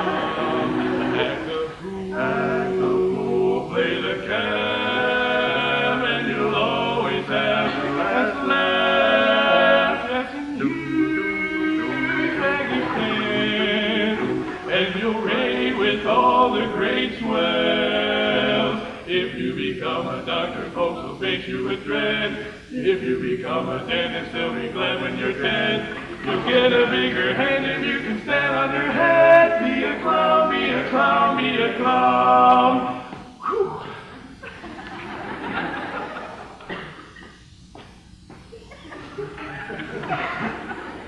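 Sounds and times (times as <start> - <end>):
male vocal quartet singing: 0.0 - 34.1.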